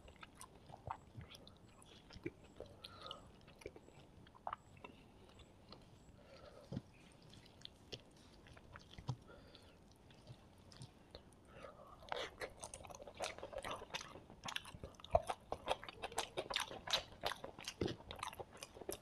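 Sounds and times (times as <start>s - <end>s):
mouth chewing: 0.0s - 19.0s.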